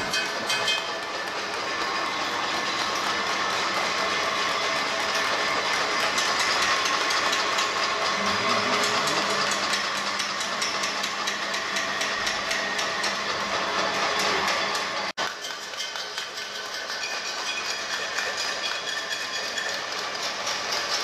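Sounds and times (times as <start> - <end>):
pots and pans beaten with spoons: 0.0 - 21.0.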